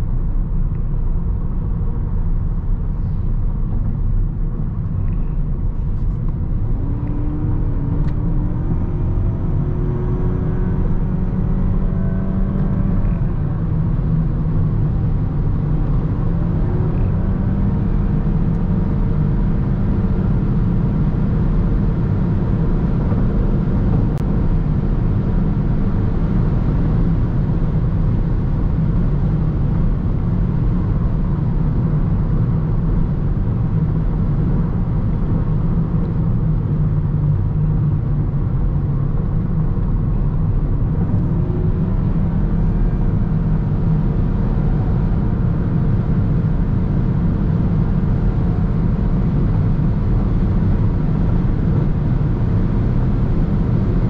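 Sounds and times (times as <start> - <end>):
faint engine hum: 0.0 - 54.0
road and wind rumble: 0.0 - 54.0.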